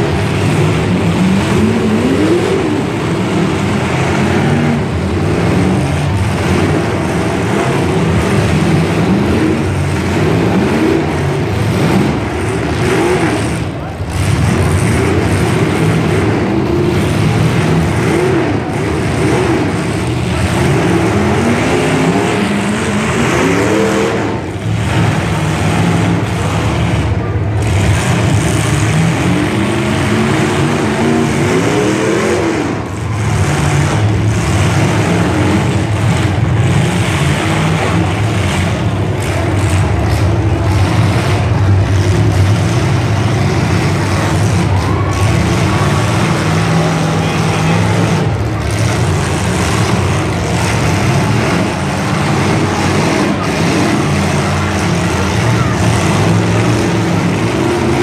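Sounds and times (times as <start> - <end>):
car engines revving loudly: 0.0 - 58.0.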